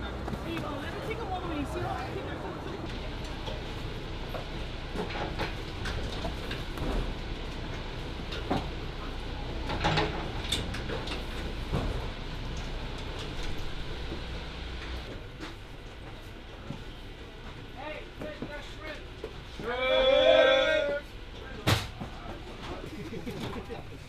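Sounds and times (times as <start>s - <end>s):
conveyor rumbling: 0.0s - 24.0s.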